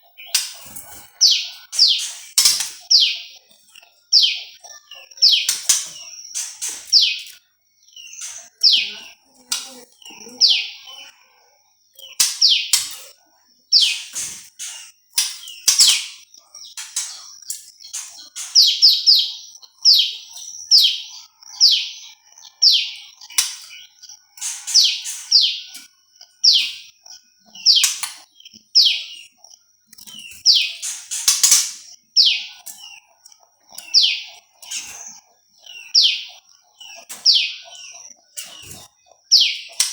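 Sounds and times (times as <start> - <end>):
songbird chirps: 0.0 - 39.9.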